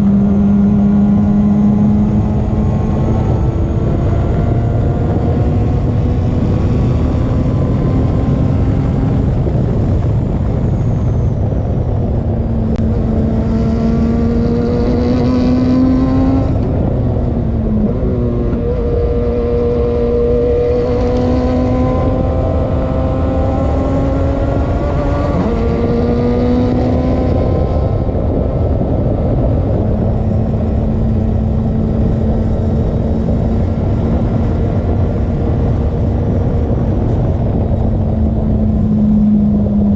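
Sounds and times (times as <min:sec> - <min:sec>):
race car engine running hard: 0:00.0 - 0:39.9
wind and road noise: 0:00.0 - 0:39.9.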